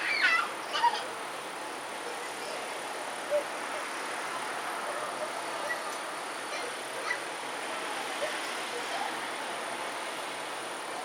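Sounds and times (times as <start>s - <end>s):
even outdoor hiss: 0.0s - 11.0s.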